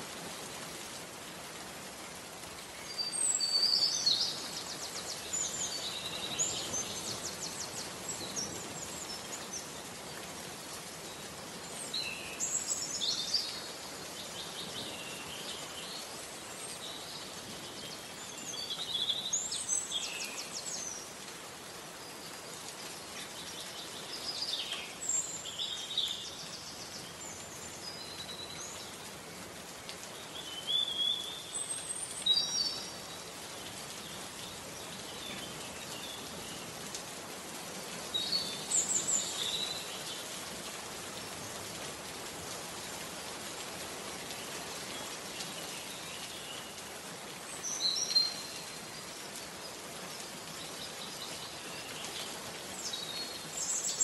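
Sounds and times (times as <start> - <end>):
steady rain hiss: 0.0 - 54.0
songbirds singing: 2.1 - 54.0.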